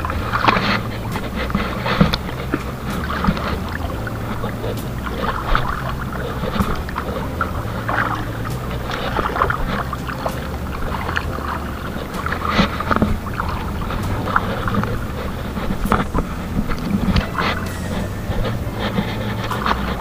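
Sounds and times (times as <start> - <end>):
boat motor hum: 0.0 - 20.0
water splashing: 0.0 - 20.0.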